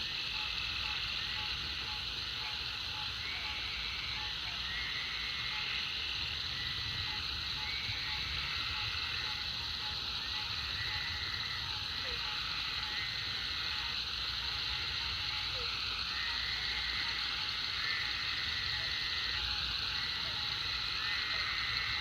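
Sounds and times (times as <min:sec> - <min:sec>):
high-pitched frog chorus: 0:00.0 - 0:22.0
rising frog calls: 0:00.0 - 0:22.0.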